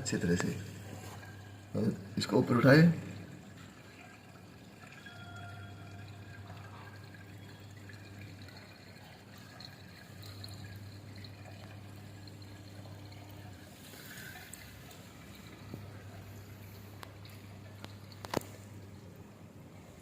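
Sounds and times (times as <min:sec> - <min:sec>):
water pouring and trickling: 0:00.0 - 0:20.0.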